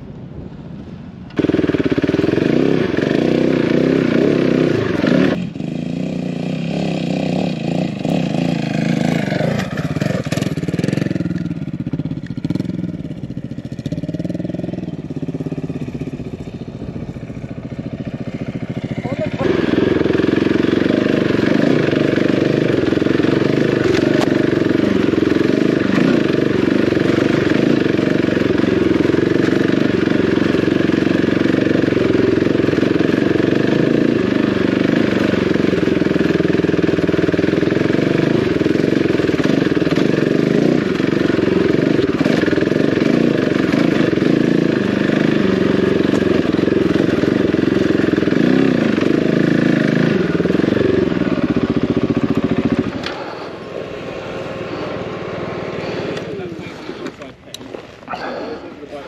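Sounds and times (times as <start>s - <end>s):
motorcycle engine running: 1.3s - 59.0s.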